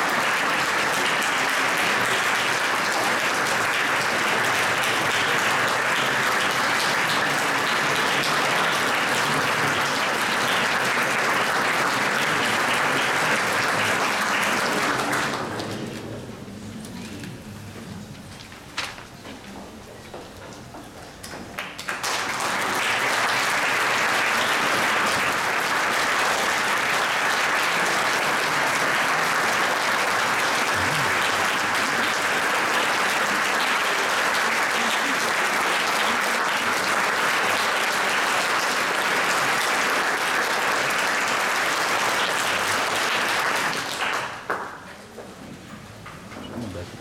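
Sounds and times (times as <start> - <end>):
audience applauding: 0.0 - 16.3, 21.5 - 44.9.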